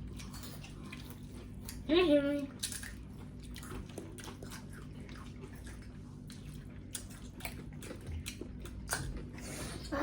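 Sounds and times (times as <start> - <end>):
person chewing crunchy chips: 0.0 - 1.9, 2.5 - 10.0
low steady hum: 0.0 - 10.0.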